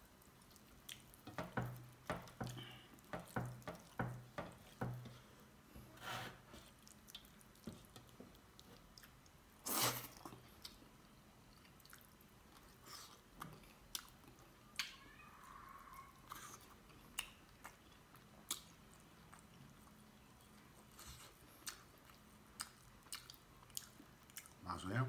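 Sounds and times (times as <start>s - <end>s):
man chewing food: 0.0s - 15.6s, 16.2s - 24.6s.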